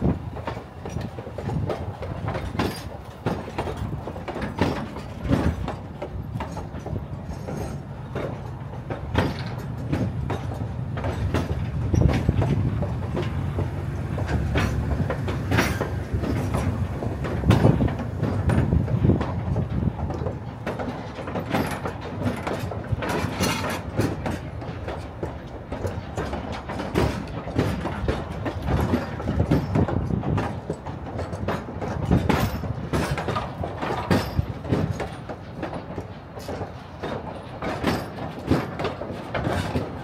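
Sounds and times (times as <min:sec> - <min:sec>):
train running rumble: 0:00.0 - 0:40.0
train wheels clattering over joints: 0:00.0 - 0:40.0.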